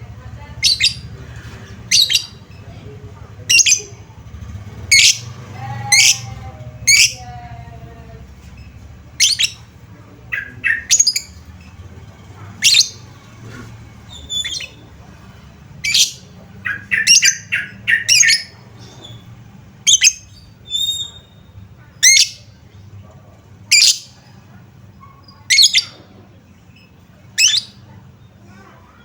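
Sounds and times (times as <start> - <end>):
bird chirping and squawking: 0.4 - 4.0, 4.7 - 7.4, 8.6 - 15.0, 15.8 - 22.6, 23.7 - 24.3, 25.2 - 29.0.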